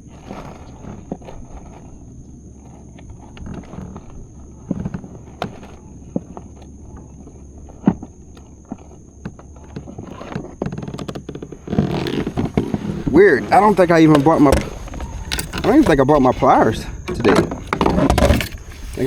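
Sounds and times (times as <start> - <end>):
gear rummaged clicks and knocks: 0.0 - 19.0.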